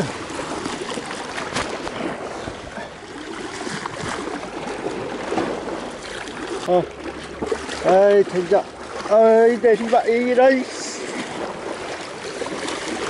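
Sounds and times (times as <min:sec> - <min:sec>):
waves splashing over rocks: 0:00.0 - 0:13.0.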